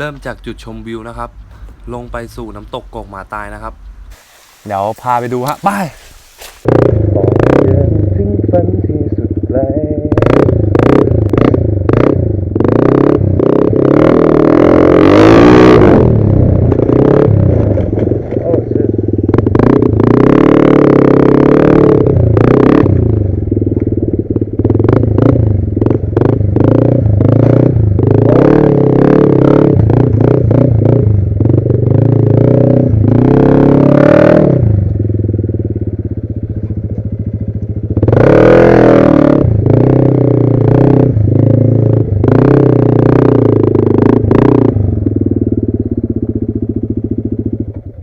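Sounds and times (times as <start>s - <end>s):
scooter engine revving: 1.0s - 48.0s.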